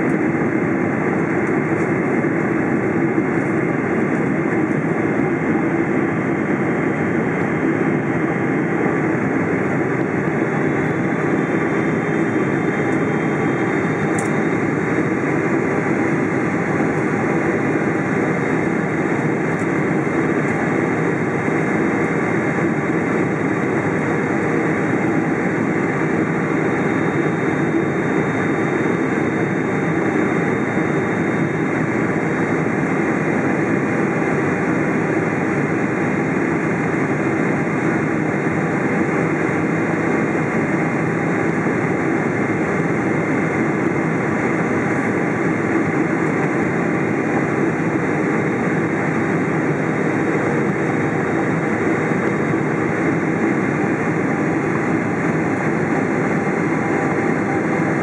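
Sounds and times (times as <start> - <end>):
jet engine and airflow noise: 0.0 - 58.0.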